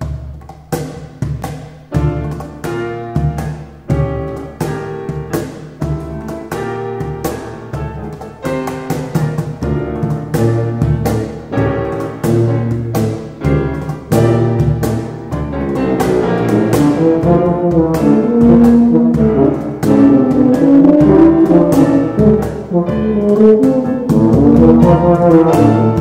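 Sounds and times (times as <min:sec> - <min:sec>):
cajon beat: 0:00.0 - 0:26.0
piano accompaniment: 0:00.0 - 0:26.0
tubas playing melody: 0:02.0 - 0:26.0.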